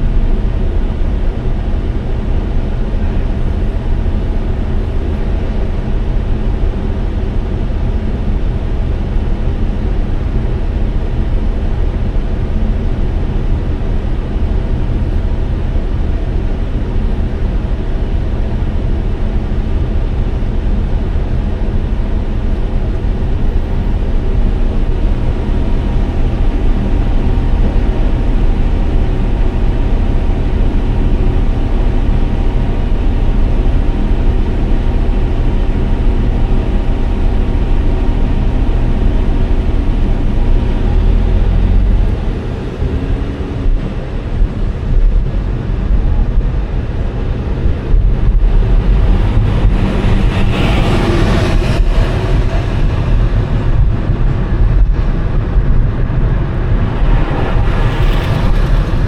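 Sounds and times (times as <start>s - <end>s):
vehicle driving rumble: 0.0s - 59.0s.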